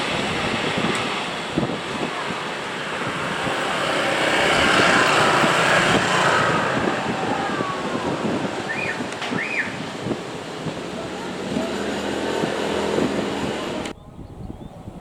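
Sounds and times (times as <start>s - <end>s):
train passing with knocks: 0.0s - 13.9s.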